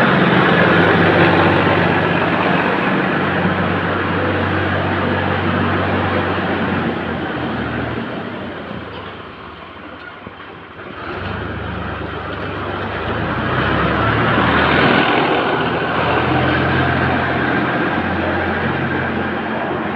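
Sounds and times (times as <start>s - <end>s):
engine running: 0.0s - 19.9s.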